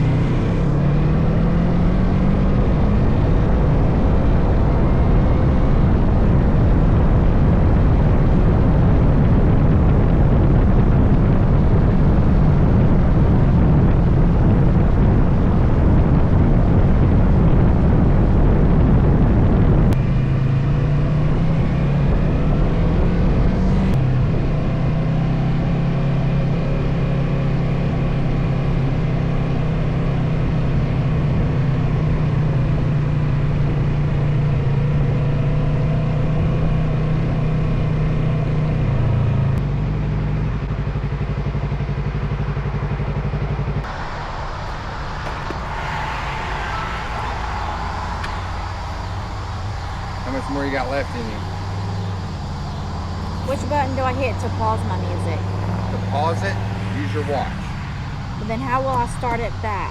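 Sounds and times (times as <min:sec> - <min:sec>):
motorcycle engine running: 0:00.0 - 0:46.2, 0:46.9 - 0:59.9
wind and road noise: 0:00.0 - 0:59.9.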